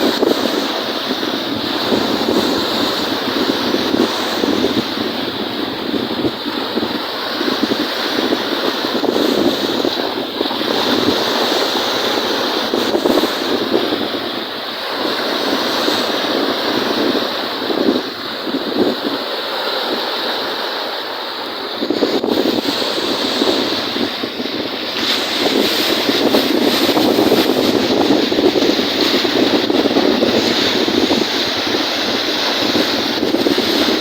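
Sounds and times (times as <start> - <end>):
wind buffeting microphone: 0.0 - 20.9, 21.5 - 34.0
waves splashing and surging: 0.0 - 34.0.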